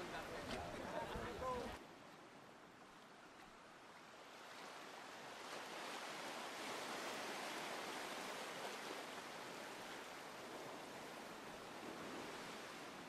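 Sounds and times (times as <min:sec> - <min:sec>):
sea water rushing around boat: 0:00.0 - 0:13.0.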